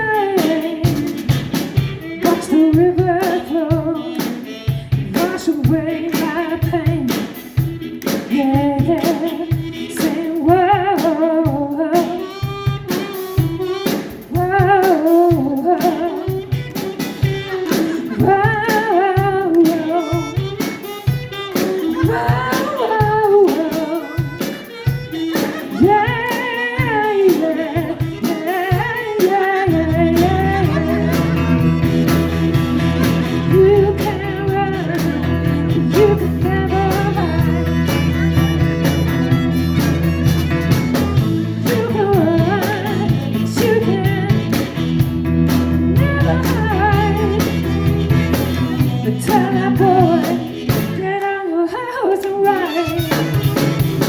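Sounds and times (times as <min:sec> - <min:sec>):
live blues band instrumental: 0:00.0 - 0:51.4, 0:52.2 - 0:54.0.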